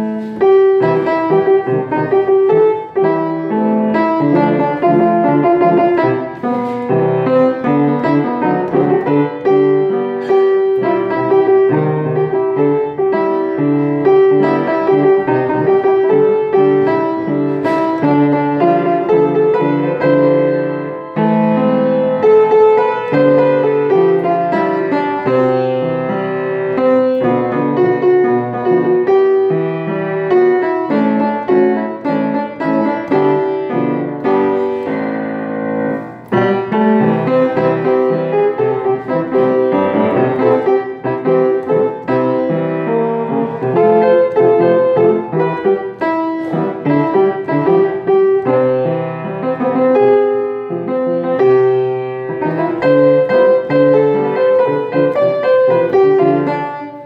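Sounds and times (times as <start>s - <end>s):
piano playing: 0.0s - 57.0s.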